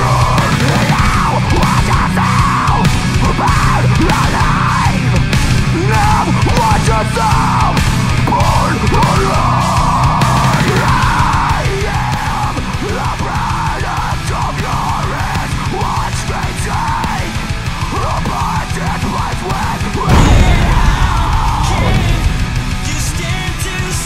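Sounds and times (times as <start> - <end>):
heavy metal music: 0.0 - 24.0.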